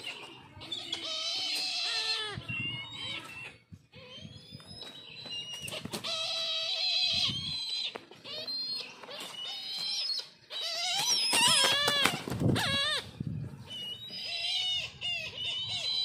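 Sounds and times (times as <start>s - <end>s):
kites calling: 0.0s - 16.0s.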